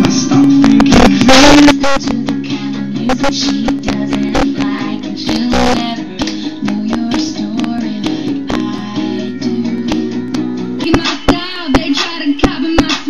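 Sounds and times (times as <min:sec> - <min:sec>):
pop-rock song with guitar and drums: 0:00.0 - 0:13.0.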